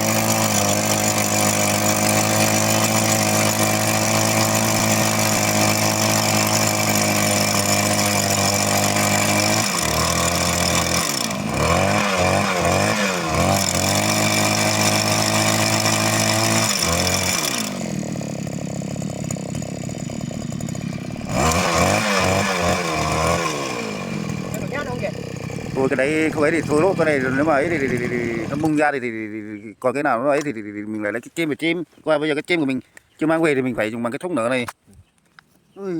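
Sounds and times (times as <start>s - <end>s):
rock drill engine revving: 0.0s - 29.3s.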